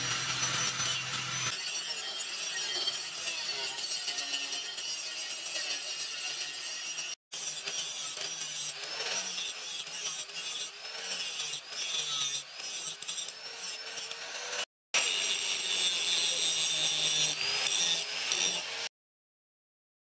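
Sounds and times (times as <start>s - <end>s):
angle grinder grinding steel: 0.0s - 18.9s.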